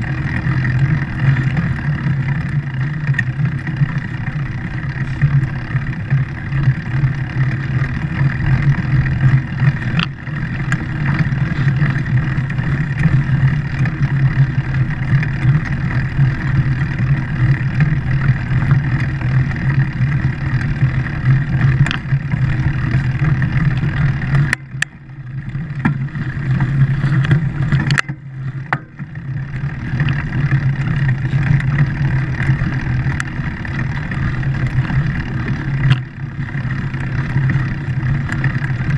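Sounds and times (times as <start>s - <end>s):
vehicle engine humming: 0.0s - 38.9s.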